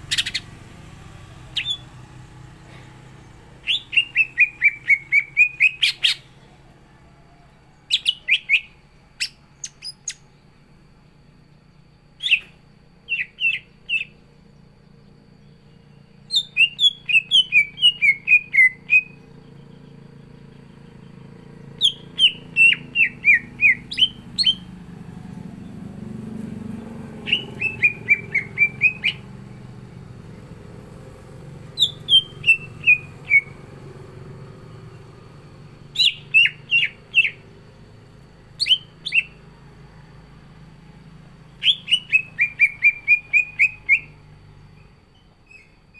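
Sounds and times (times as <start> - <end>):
bird singing downward chirps: 0.0 - 10.5, 12.1 - 45.9.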